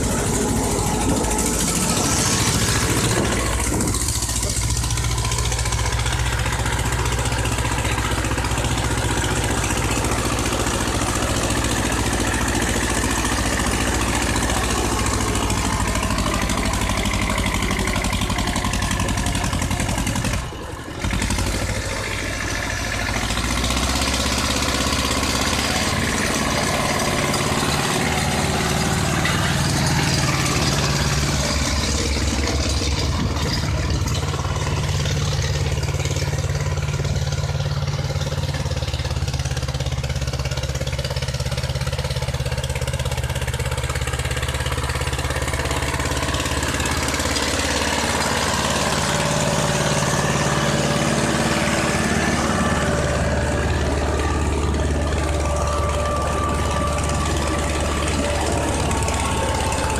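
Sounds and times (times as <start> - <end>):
tractor diesel engine at full throttle: 0.0 - 59.9.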